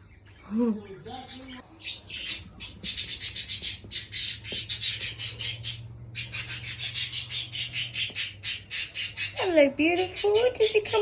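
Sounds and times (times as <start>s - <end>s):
parrot squawking: 1.6s - 11.0s.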